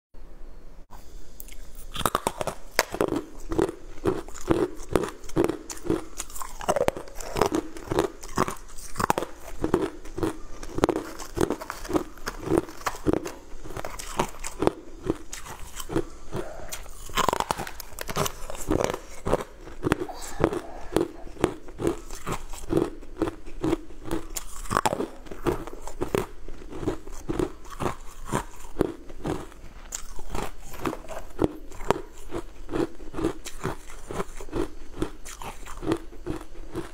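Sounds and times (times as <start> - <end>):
chewing crunchy ice: 1.5 - 36.9.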